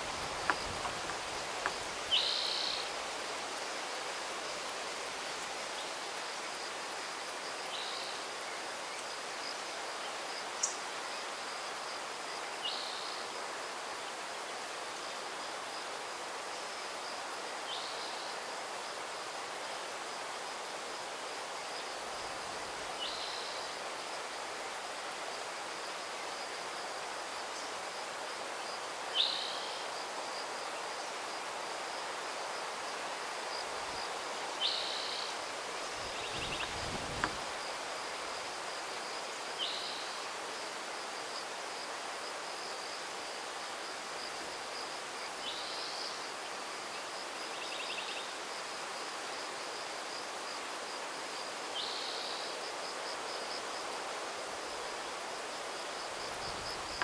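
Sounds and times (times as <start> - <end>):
breeze in trees: 0.0 - 57.0.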